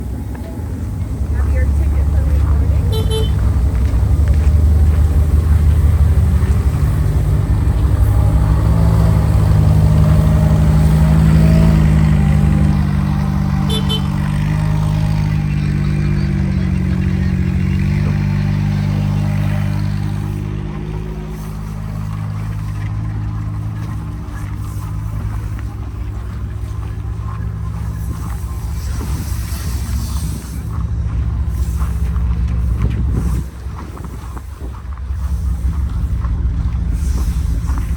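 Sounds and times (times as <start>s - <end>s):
diesel locomotive engine idling: 0.0s - 37.9s.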